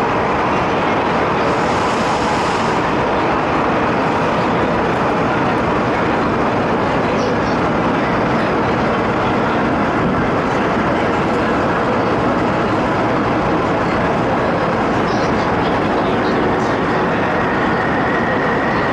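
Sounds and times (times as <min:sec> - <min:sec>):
electric train cabin running noise: 0:00.0 - 0:18.9.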